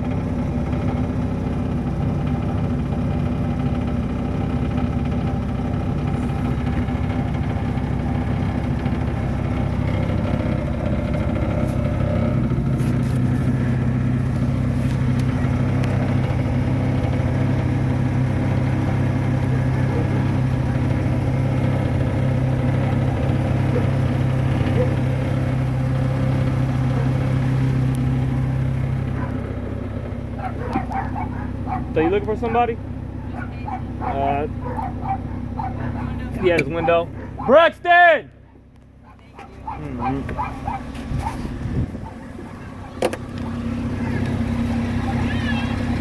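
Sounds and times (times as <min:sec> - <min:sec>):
fuel tank rattle: 0:00.0 - 0:37.8, 0:38.4 - 0:46.0
car engine idling hum: 0:00.0 - 0:46.0.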